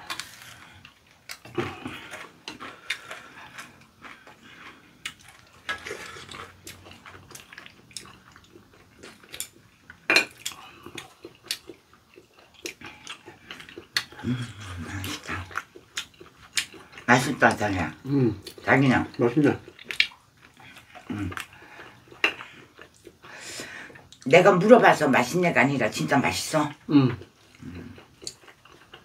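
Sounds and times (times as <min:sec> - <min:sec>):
chewing: 0:00.0 - 0:24.3, 0:26.7 - 0:29.0.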